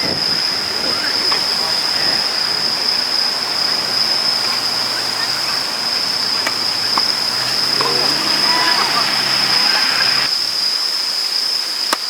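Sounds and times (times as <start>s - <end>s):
faint clicks: 0.0s - 10.8s
wind rushing over microphone: 0.0s - 11.2s.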